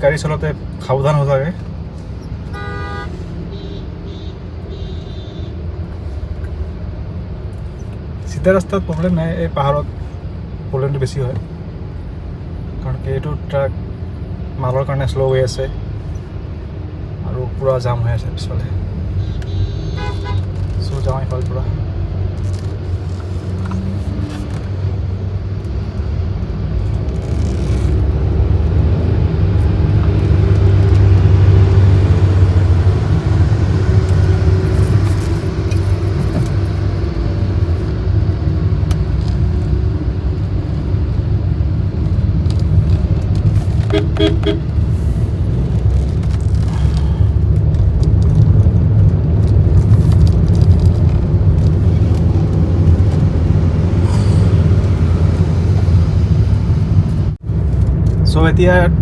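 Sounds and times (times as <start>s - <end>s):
car driving on highway: 0.0s - 59.0s.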